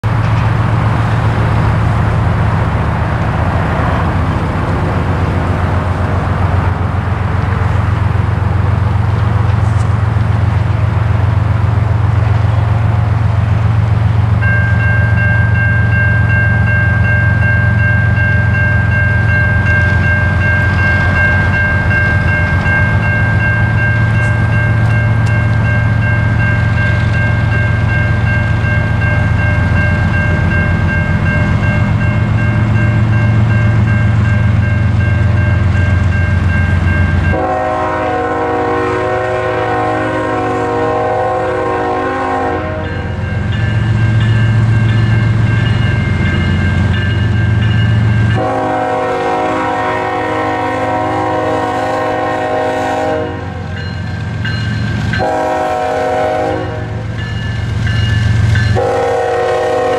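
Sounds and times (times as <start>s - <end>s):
diesel locomotive rumble: 0.0s - 59.9s
crossing bell dinging: 10.5s - 59.9s.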